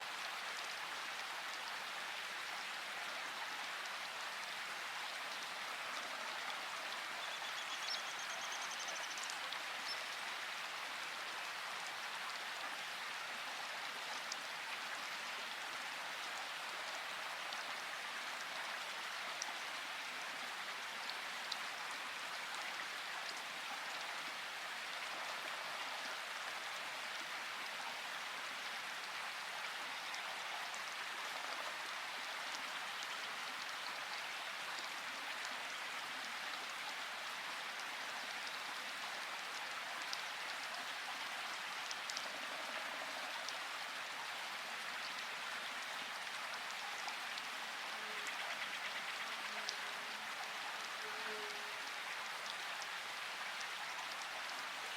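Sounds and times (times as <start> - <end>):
rain falling in forest: 0.0 - 54.9.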